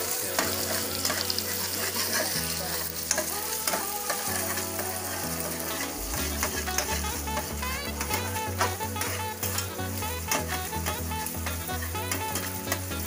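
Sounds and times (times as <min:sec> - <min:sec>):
eggs sizzling in a frying pan: 0:00.0 - 0:13.0
metal spatula scraping a pan: 0:00.0 - 0:13.0.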